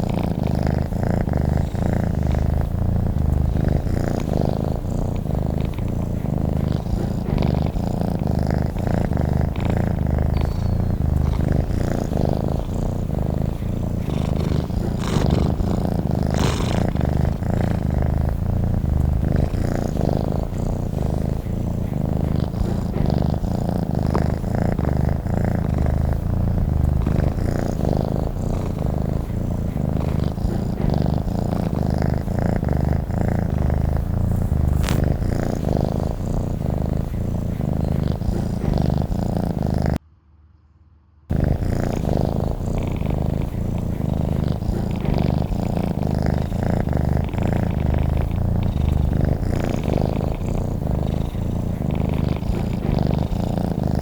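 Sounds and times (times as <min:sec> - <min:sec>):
cat purring: 0:00.0 - 0:40.0, 0:41.3 - 0:54.0.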